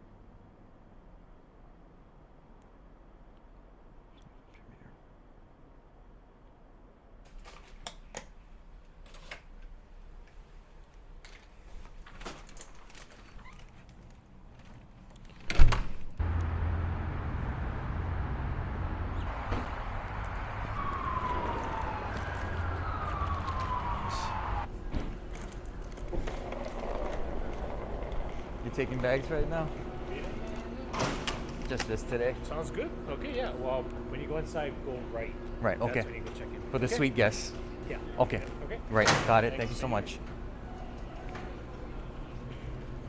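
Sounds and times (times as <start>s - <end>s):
low rumble of traffic: 0.0s - 43.0s.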